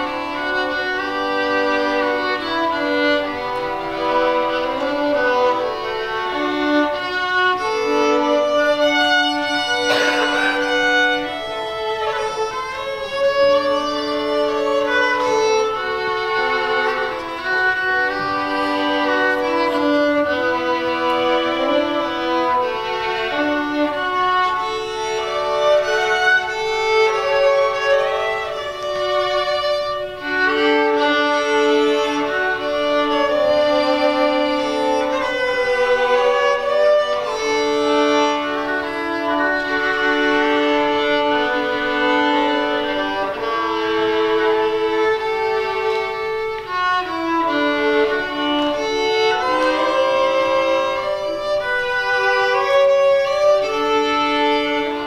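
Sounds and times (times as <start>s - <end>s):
violins playing a duet: 0.0s - 55.0s.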